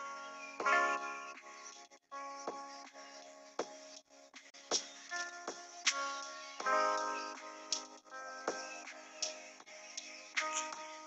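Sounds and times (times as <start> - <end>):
hip-hop instrumental beat: 0.0 - 11.0.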